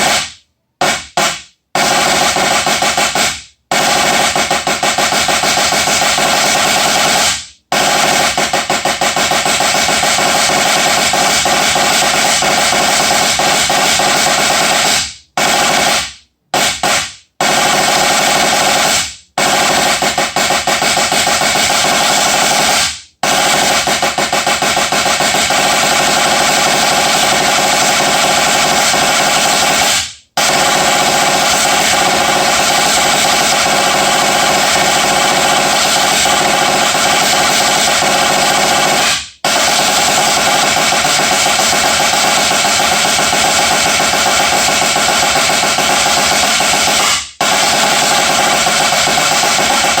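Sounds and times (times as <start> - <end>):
drum rolls: 0.0 - 15.9, 18.4 - 50.0.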